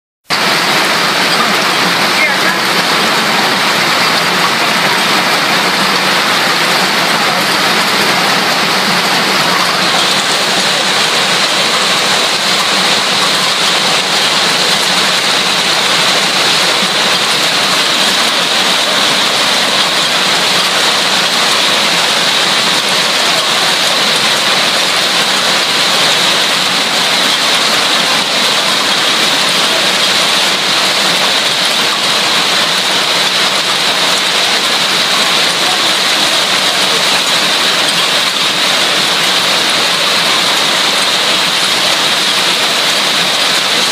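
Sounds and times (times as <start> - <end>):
hail and rain pelting: 0.2 - 43.9.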